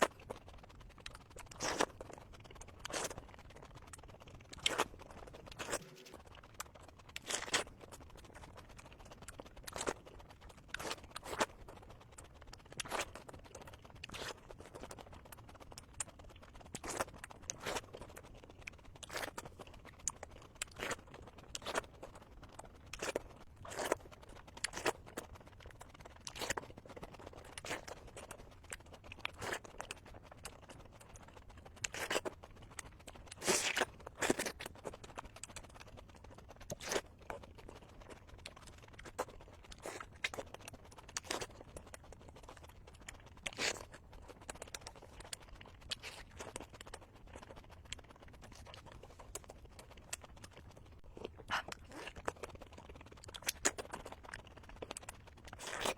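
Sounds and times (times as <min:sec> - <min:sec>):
chewing mouth smacks: 0:00.0 - 0:55.9.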